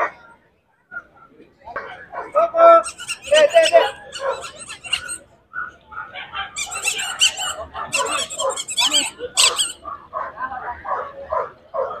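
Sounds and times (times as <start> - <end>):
dogs barking: 1.2 - 12.0.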